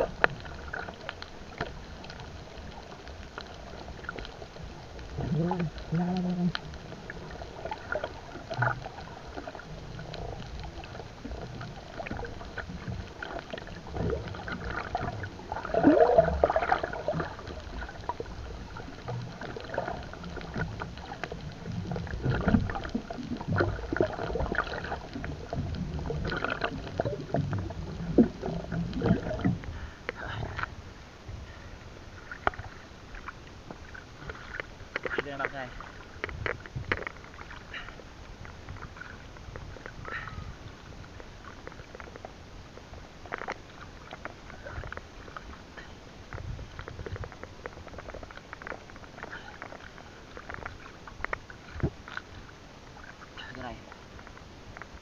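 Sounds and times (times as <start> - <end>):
muffled underwater gurgling: 0.0 - 55.0.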